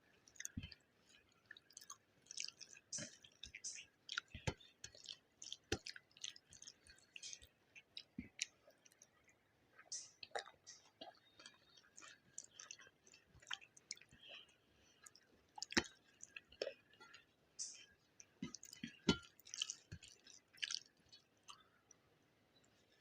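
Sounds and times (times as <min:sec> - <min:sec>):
wet chewing and mouth smacks: 0:00.2 - 0:22.0.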